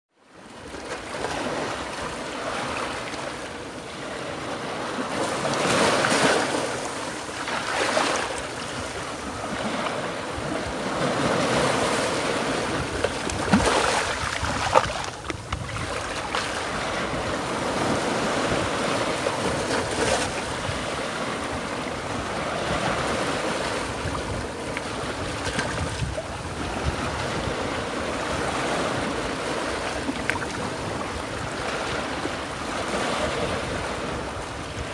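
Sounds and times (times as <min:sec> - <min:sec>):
waves washing over sand: 0:00.4 - 0:34.9.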